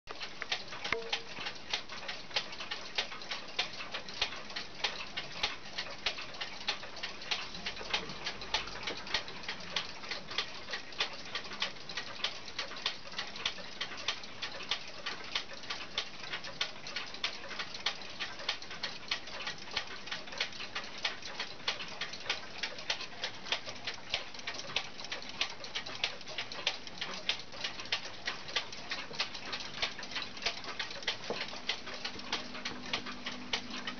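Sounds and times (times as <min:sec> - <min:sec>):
wall clock ticking: 0:00.1 - 0:33.9.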